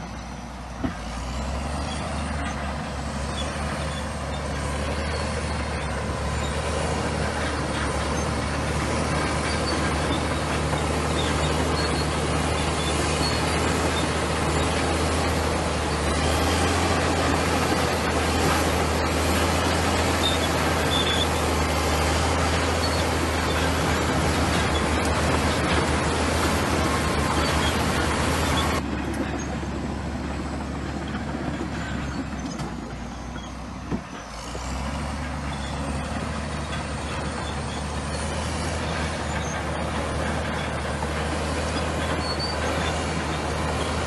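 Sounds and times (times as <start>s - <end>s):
bulldozer diesel engine rumbling: 0.0s - 44.0s.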